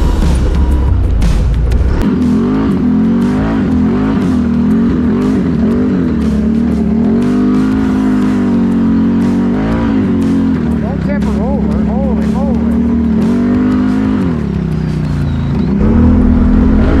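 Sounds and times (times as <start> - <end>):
engine revving while riding: 0.0 - 17.0.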